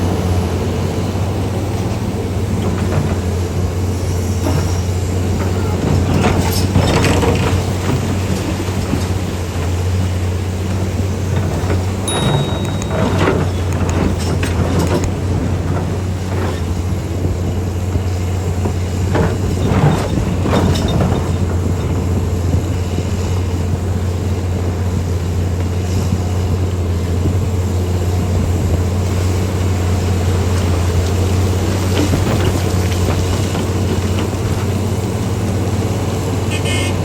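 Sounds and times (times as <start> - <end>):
heavy diesel engines droning: 0.0 - 37.0
rattles and clanks: 1.7 - 37.0.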